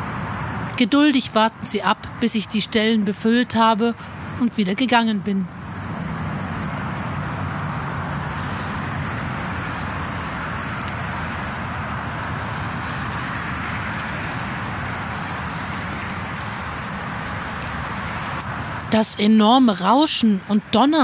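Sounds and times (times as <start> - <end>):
motorway traffic rumbling: 0.0 - 21.0.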